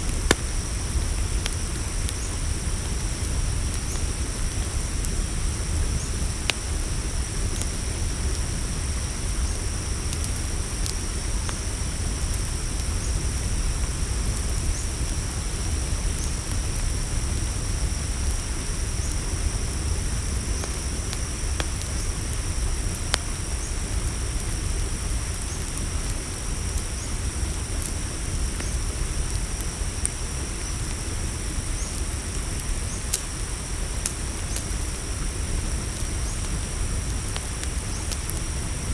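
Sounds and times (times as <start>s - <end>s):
campfire crackling: 0.0s - 38.9s
crickets chirping: 0.0s - 38.9s.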